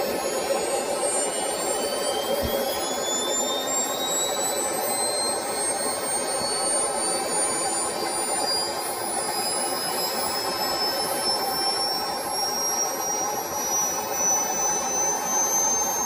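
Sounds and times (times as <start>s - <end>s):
turbojet engine whine: 0.0s - 16.0s.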